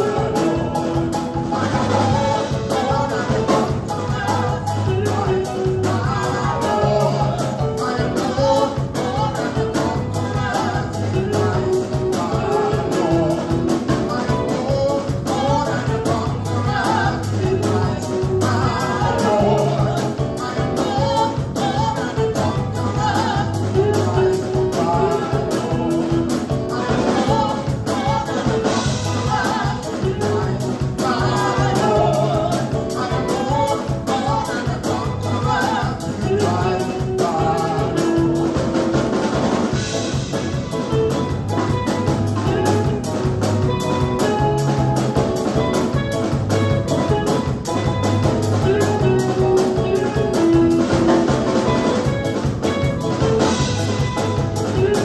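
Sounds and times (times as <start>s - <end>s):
gospel band with singers: 0.0s - 55.0s
steady drum beat: 0.0s - 55.0s.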